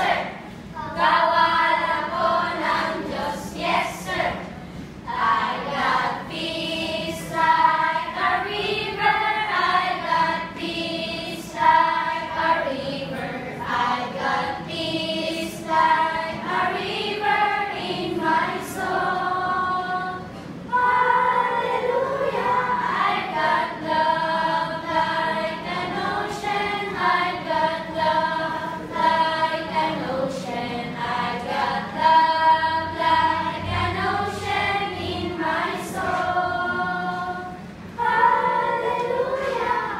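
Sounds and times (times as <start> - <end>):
children singing together: 0.0 - 39.9.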